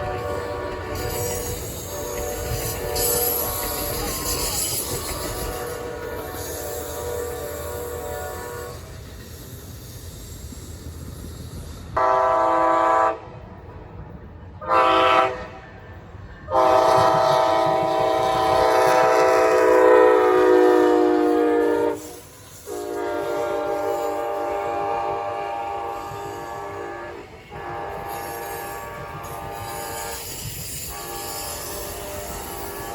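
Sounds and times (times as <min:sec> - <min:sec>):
train air horn blasts: 0:00.0 - 0:08.9, 0:12.0 - 0:13.3, 0:14.6 - 0:15.8, 0:16.5 - 0:32.9
low train rumble: 0:00.0 - 0:32.9.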